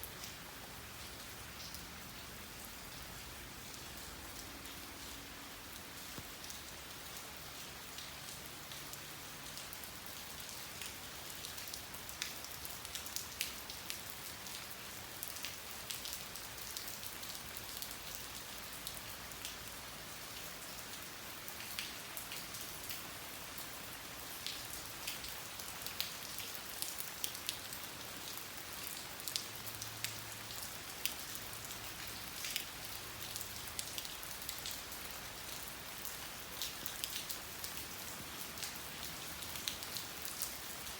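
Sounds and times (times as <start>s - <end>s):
raindrops ticking close by: 0.0s - 40.9s
steady rain falling: 0.0s - 40.9s.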